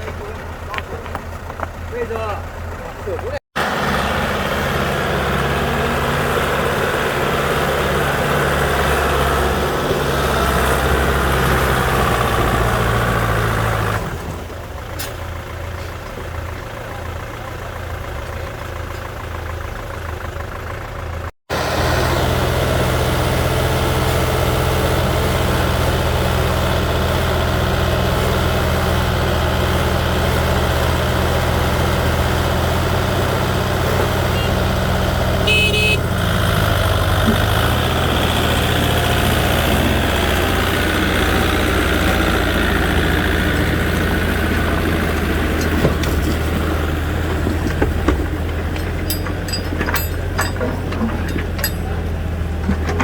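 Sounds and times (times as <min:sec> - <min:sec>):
heavy machine diesel engine: 0:00.0 - 0:53.0.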